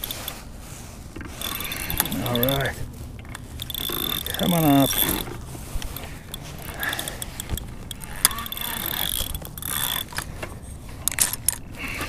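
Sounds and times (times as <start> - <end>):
fishing reel ratcheting: 0.0 - 0.4, 1.2 - 12.0.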